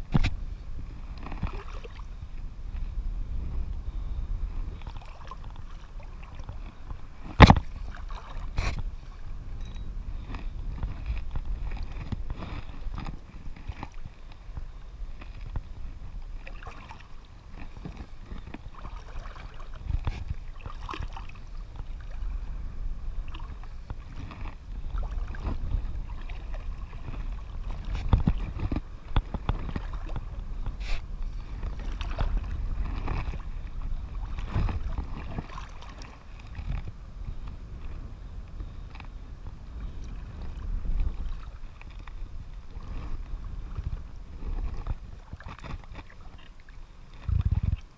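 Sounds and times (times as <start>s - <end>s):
water lapping and sloshing: 0.0s - 47.9s
wind rumble: 0.0s - 47.9s.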